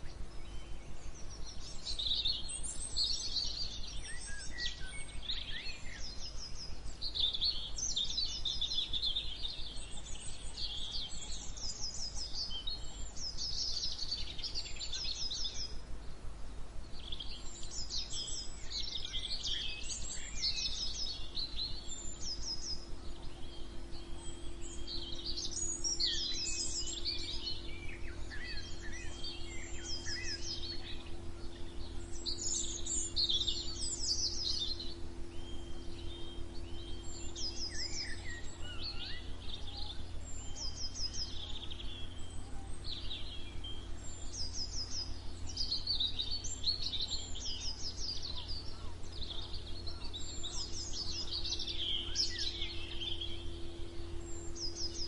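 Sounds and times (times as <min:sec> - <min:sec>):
birds singing and chirping: 0:00.0 - 0:55.0
low background rumble: 0:00.0 - 0:55.0.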